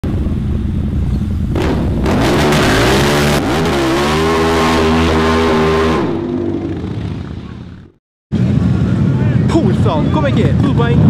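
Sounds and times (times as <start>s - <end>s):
motorcycle engine idling and revving: 0.1s - 11.0s.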